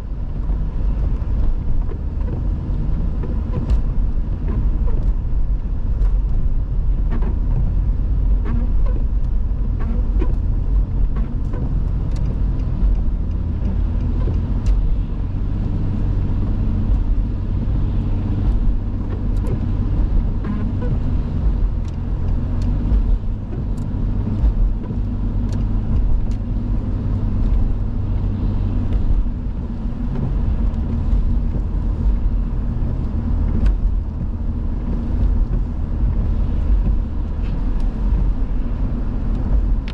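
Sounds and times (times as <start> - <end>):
car engine and road rumble: 0.0 - 39.9
faint clicks and ticks: 5.9 - 39.9.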